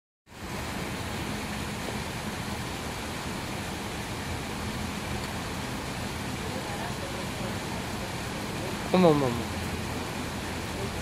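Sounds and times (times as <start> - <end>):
water falling into pond: 0.3 - 11.0.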